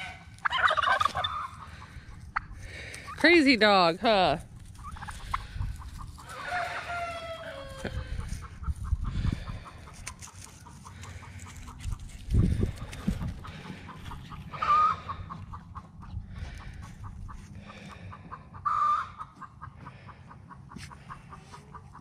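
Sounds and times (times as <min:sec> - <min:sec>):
turkeys calling: 0:00.0 - 0:22.0.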